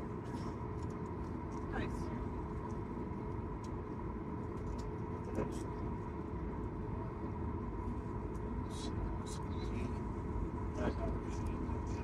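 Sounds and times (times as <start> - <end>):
air conditioning: 0.0 - 12.0.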